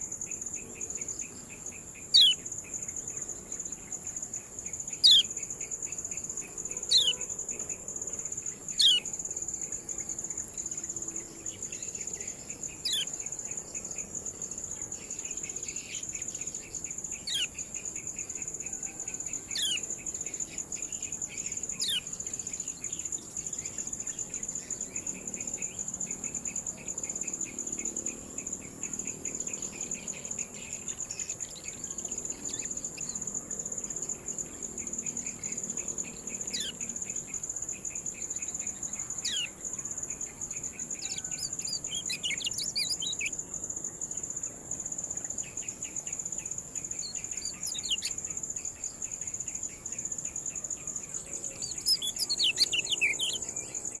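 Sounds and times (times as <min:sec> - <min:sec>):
high insect whine: 0:00.0 - 0:54.0
rapid cricket-like pulsing: 0:00.0 - 0:54.0.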